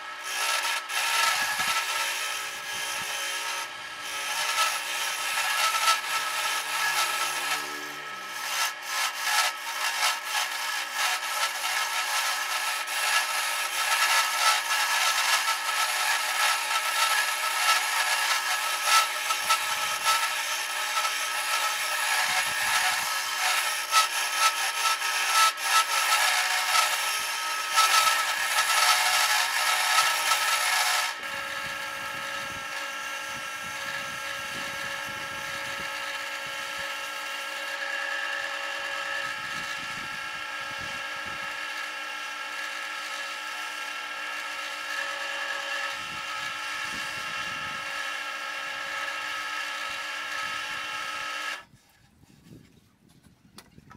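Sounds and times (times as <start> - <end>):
lathe motor whine: 0.0 - 51.7
chisel scraping spinning wood: 0.0 - 53.9.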